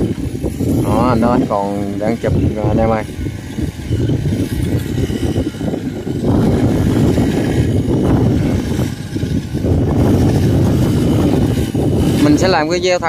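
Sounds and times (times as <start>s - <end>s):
combine harvester rumbling: 0.0s - 13.0s.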